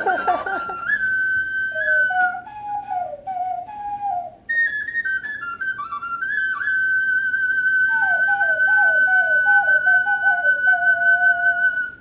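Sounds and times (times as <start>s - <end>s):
high ocarina whistling tone: 0.0s - 12.0s
lower ocarina sliding notes: 0.0s - 12.0s.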